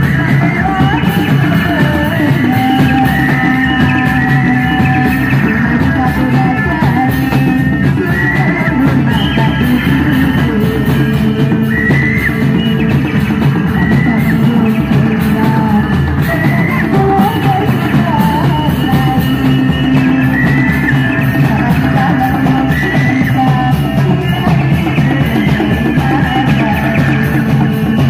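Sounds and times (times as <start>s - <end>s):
folk music with drums: 0.0s - 28.0s.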